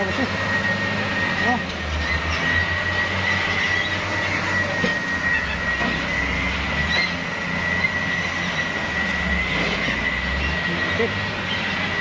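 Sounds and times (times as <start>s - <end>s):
high whine: 0.0s - 12.0s.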